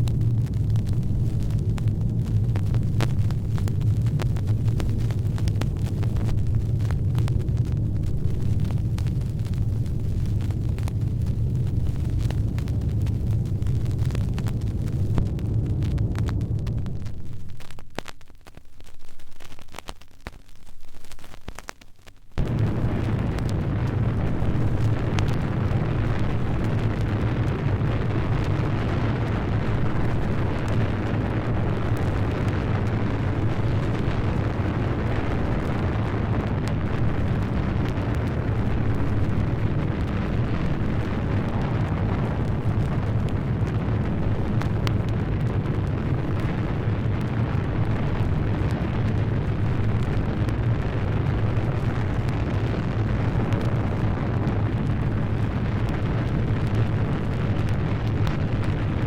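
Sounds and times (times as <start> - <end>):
deep roaring rumble: 0.0 - 17.4, 22.4 - 59.0
scattered crackles: 0.0 - 59.0.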